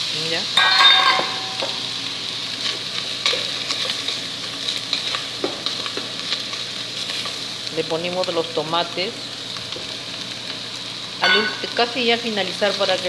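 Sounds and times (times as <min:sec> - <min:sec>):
meat and vegetables sizzling in pot: 0:00.0 - 0:13.0.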